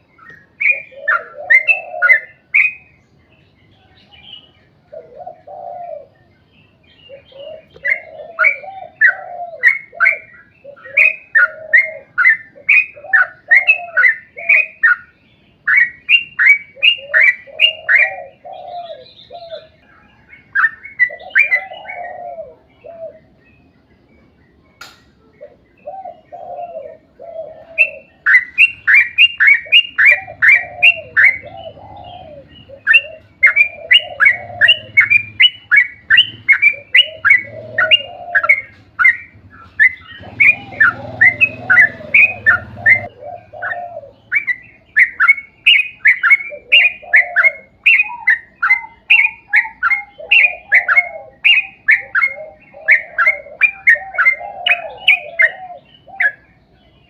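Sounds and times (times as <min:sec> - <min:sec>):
bulbul chirping song: 0:00.0 - 0:57.0.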